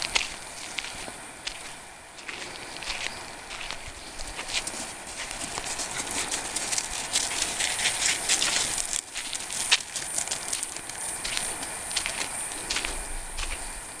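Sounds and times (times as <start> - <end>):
footsteps on gravel: 0.0 - 14.0.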